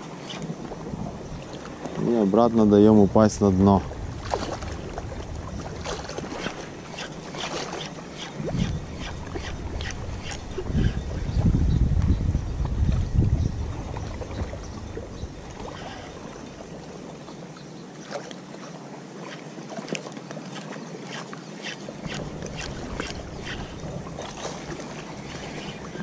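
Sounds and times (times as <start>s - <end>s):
water lapping and sloshing: 0.0s - 26.0s
wind: 0.0s - 26.0s.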